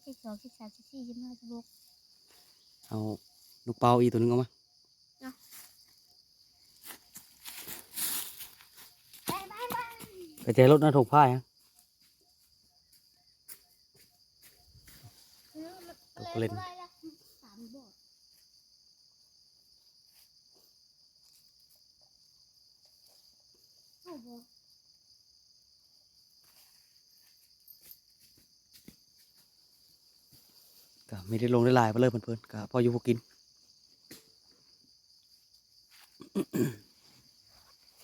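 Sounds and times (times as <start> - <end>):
insect chorus: 0.0 - 38.0.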